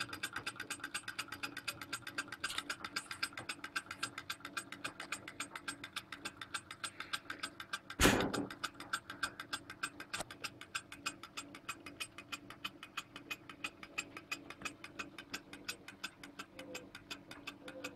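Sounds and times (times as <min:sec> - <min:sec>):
model engine clicking rapidly: 0:00.0 - 0:17.9.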